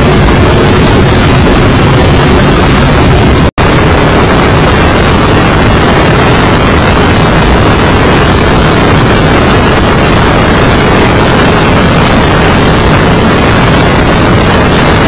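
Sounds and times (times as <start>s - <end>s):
race car engine and wind buffeting: 0.0s - 15.0s.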